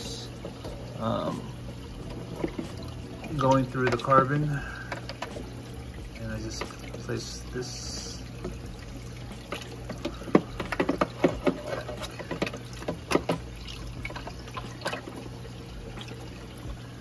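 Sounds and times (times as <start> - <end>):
constant low hum: 0.0 - 17.0
water running steadily: 0.0 - 17.0
water splashing: 0.0 - 17.0.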